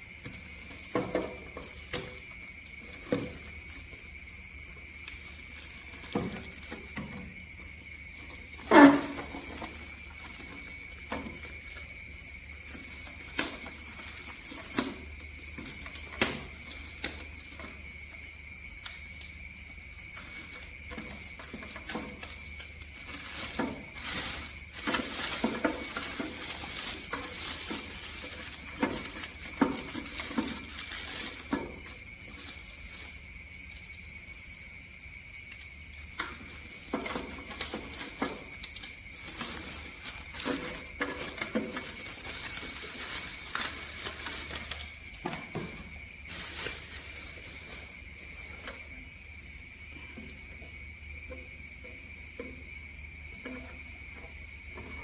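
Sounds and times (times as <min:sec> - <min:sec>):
objects being handled clattering: 0:00.0 - 0:34.2, 0:36.0 - 0:49.4.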